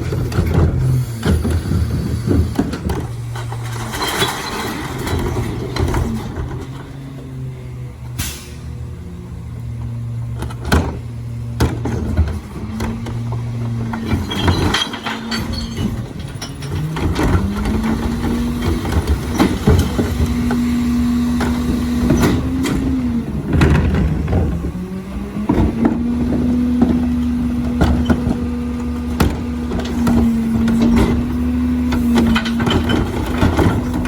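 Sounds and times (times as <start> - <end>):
garbage truck engine: 0.0 - 34.0.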